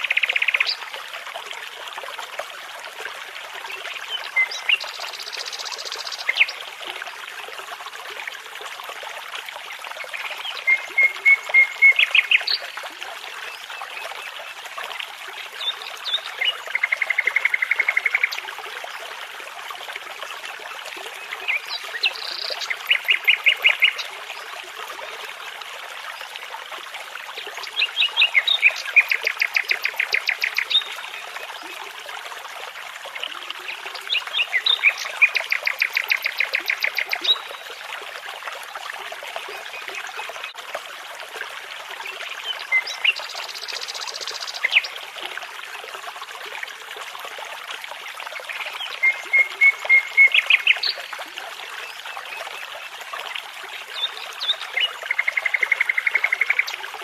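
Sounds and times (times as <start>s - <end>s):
babbling brook rushing: 0.0s - 57.0s.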